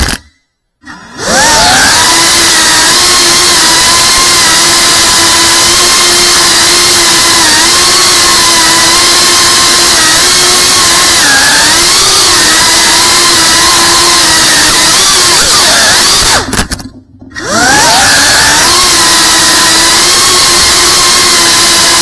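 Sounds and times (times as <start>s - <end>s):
quadcopter motors whining: 0.9s - 22.0s.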